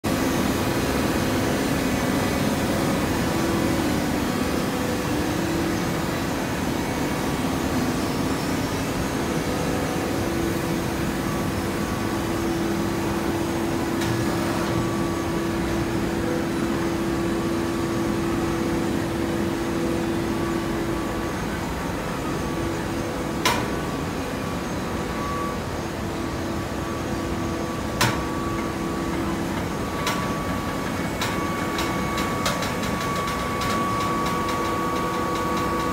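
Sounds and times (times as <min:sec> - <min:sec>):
baling press machine hum: 0:00.1 - 0:35.9.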